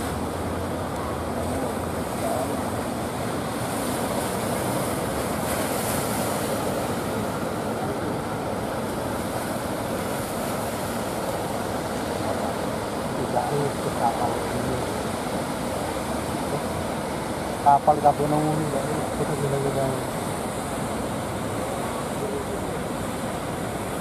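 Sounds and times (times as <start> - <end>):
ocean surf breaking over rocks: 0.0 - 24.0.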